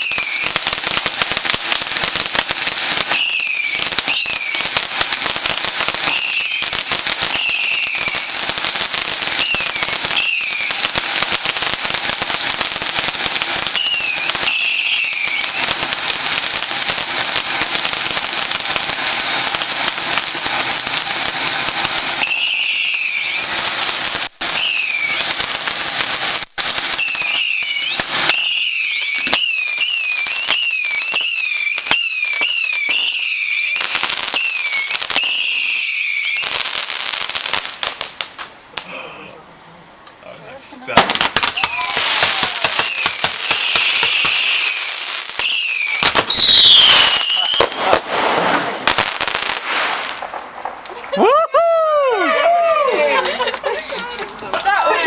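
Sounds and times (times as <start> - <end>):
fireworks whistling shrieks: 0.0 - 36.6, 40.9 - 53.2
fireworks crackling: 0.0 - 55.0.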